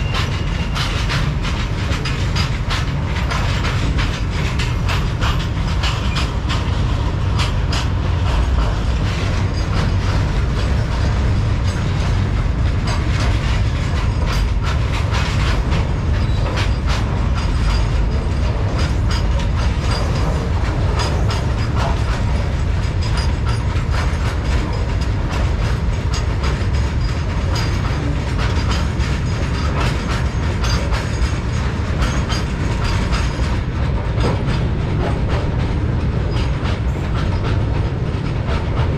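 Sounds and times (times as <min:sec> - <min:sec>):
steel wheels on rail: 0:00.0 - 0:38.9
wheels clicking over rail joints: 0:00.0 - 0:38.9.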